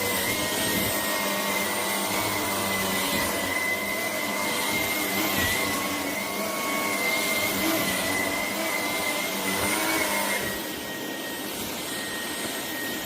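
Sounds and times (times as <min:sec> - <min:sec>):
vacuum cleaner whine: 0:00.0 - 0:13.0.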